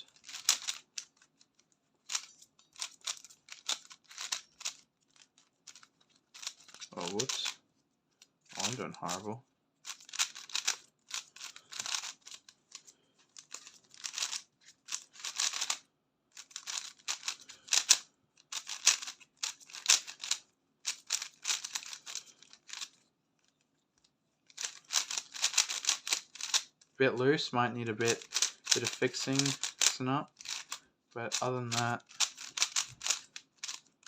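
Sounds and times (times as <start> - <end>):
speed cube plastic clacking: 0.0 - 7.6, 8.5 - 9.2, 9.8 - 15.8, 16.4 - 23.6, 24.5 - 26.8, 28.0 - 34.0.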